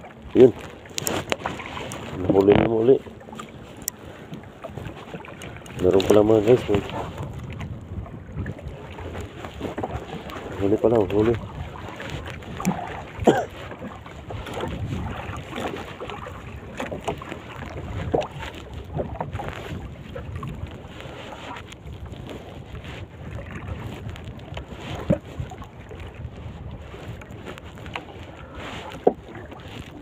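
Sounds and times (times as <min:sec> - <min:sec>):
water lapping and splashing: 0:00.0 - 0:30.0
wind on microphone: 0:00.0 - 0:30.0.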